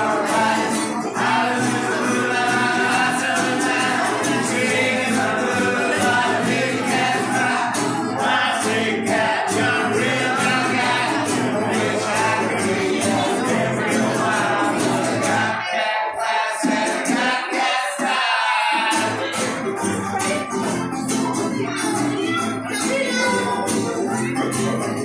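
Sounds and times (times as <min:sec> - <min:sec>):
group singing: 0:00.0 - 0:25.0
ukulele band strumming: 0:00.0 - 0:25.0.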